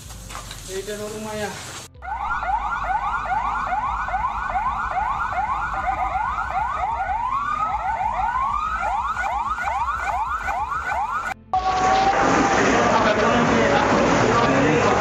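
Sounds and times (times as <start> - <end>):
siren yelping: 2.0 - 14.4.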